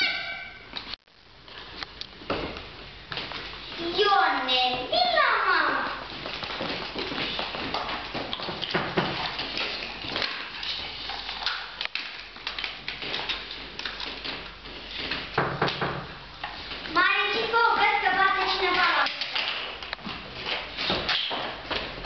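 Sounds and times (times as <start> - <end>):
children's footsteps on wooden floor: 2.2 - 22.0.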